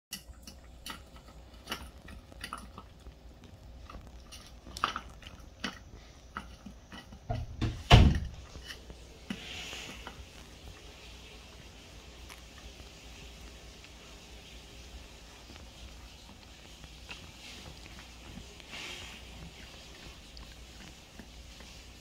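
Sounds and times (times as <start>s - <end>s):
dog licking from metal bowl: 0.1s - 7.3s, 8.4s - 22.0s.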